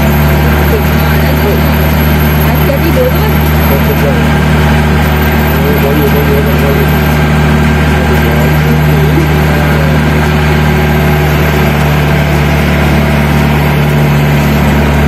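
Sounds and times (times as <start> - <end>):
small locomotive engine running: 0.0 - 15.0.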